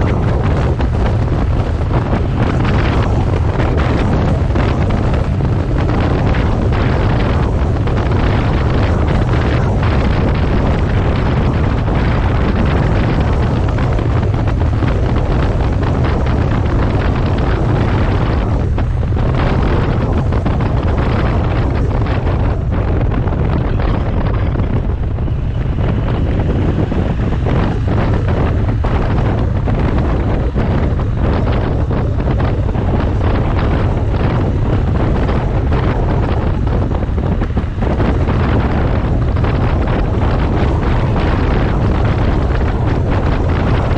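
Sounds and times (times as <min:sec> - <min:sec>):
motorcycle engine at road speed: 0:00.0 - 0:43.9
wind buffeting microphone: 0:00.0 - 0:43.9.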